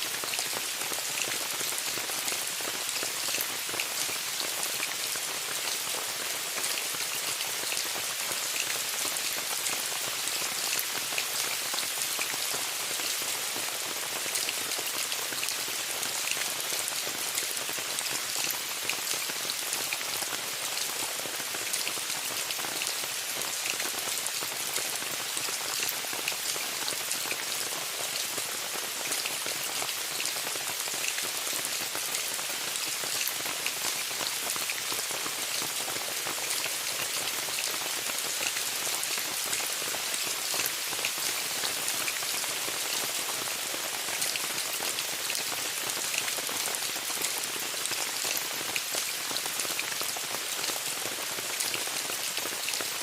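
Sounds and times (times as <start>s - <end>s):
rain on a tent: 0.0s - 53.0s.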